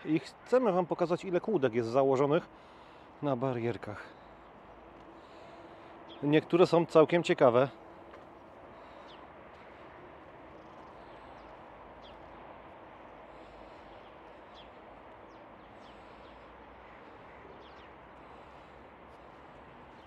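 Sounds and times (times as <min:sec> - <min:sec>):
background noise wash: 0:00.0 - 0:20.0.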